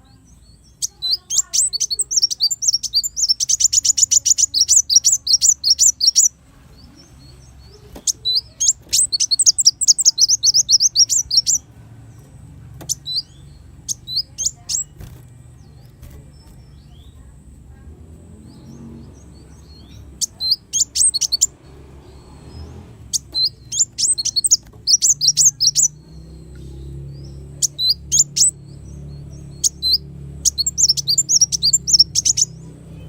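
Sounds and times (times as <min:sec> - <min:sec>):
bird chirping and trilling: 0:00.0 - 0:33.0.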